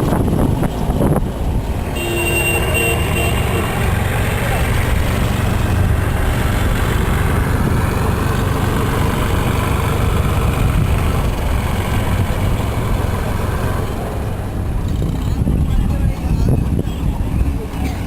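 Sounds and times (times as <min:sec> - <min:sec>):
aircraft engine roar: 0:00.0 - 0:18.0.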